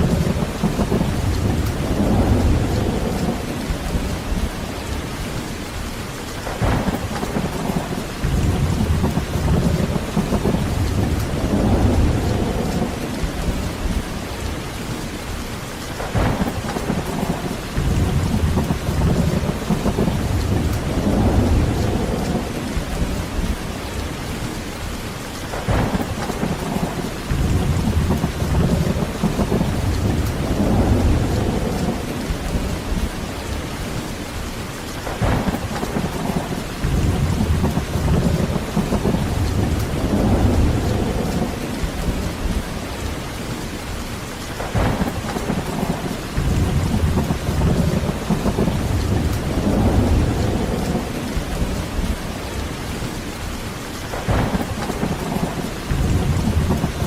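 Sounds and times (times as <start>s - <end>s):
thunder cracks and rumbles: 0.0s - 4.9s, 6.4s - 15.0s, 16.0s - 24.3s, 25.5s - 34.0s, 35.0s - 43.6s, 44.4s - 53.4s, 54.1s - 57.0s
heavy rain: 0.0s - 57.0s.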